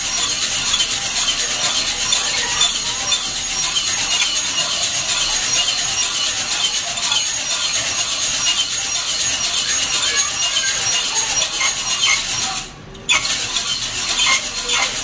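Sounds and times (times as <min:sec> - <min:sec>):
coffee beans rattling in drum: 0:00.0 - 0:15.0.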